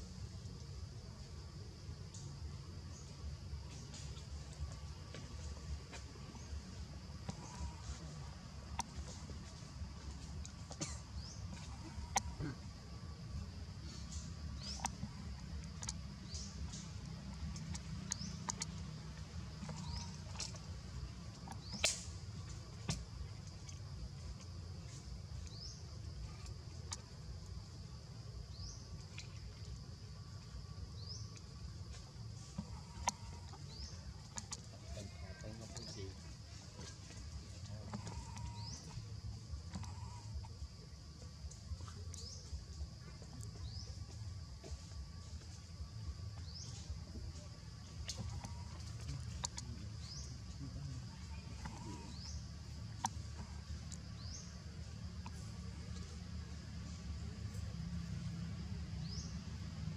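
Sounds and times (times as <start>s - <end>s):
high insect drone: 0.0s - 59.9s
steady low rumble: 0.0s - 59.9s.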